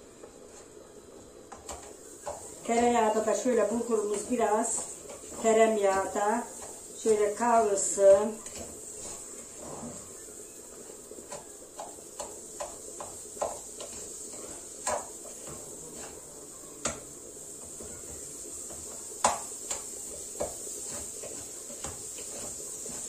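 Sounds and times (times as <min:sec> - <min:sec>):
faint steady hiss: 0:00.0 - 0:23.0
wooden spoon scraping a pot: 0:02.2 - 0:23.0.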